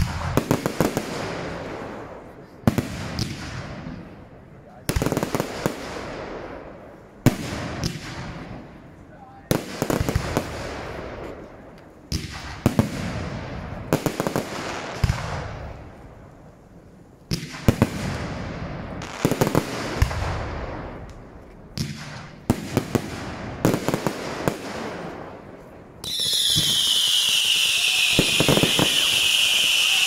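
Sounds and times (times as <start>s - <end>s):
fireworks bursting: 0.0s - 16.2s, 17.2s - 30.0s.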